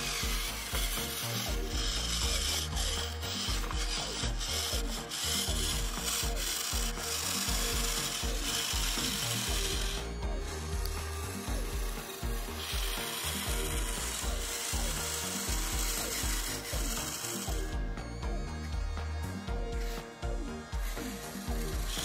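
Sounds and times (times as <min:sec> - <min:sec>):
electric gear motor whirring: 0:00.0 - 0:22.0.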